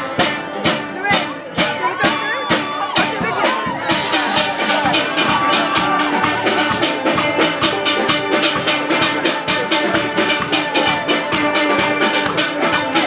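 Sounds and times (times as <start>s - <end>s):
quick drum beat: 0.0s - 13.0s
steelpan melody: 0.0s - 13.0s.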